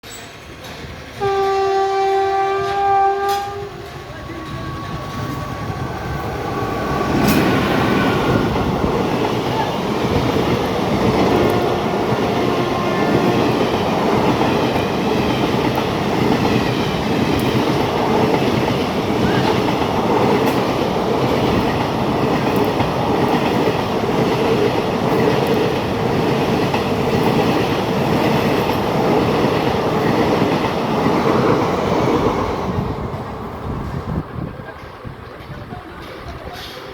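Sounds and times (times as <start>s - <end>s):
train passing with wheels clacking: 0.0s - 36.9s.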